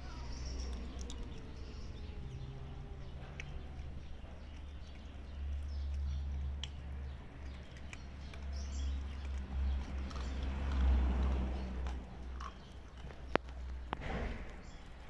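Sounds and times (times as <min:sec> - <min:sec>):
animals crunching dry kibble: 0:00.0 - 0:15.0
low uneven rumble: 0:00.0 - 0:15.0.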